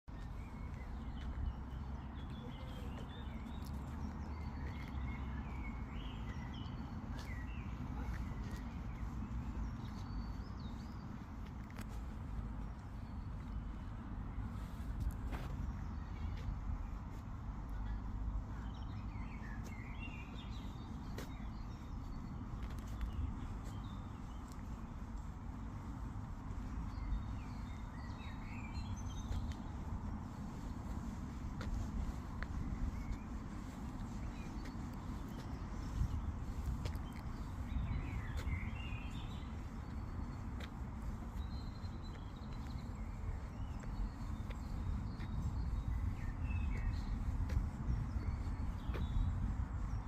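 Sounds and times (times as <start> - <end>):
small birds chirping: 0.0 - 50.0
steady low rumble: 0.1 - 50.0.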